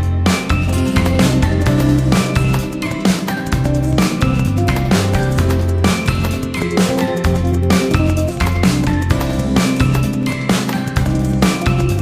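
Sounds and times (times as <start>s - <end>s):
electronic drums and bass music: 0.0s - 12.0s.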